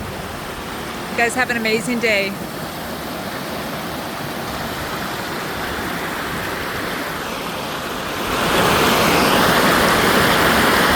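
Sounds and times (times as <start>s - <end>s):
rushing river water: 0.0s - 10.9s.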